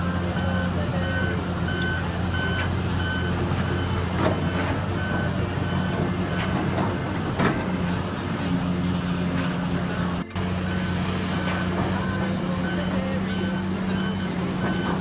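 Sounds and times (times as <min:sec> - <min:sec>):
reversing alarm beeping: 0:00.0 - 0:08.1, 0:09.8 - 0:15.0
diesel engine running: 0:00.0 - 0:15.0.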